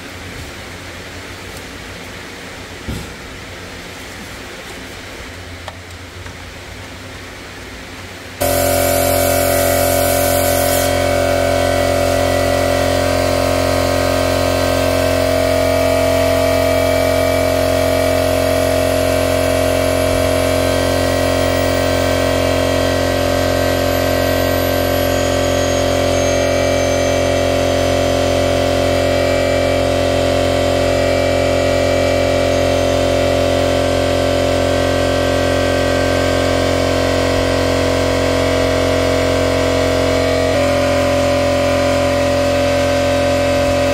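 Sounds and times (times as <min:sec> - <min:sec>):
machine humming steadily: 0:00.0 - 0:43.9.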